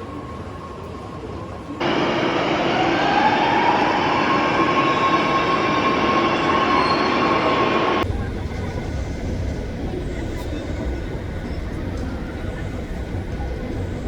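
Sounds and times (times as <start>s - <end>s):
electric train humming: 1.8s - 14.0s
train motor whine rising: 1.8s - 14.0s.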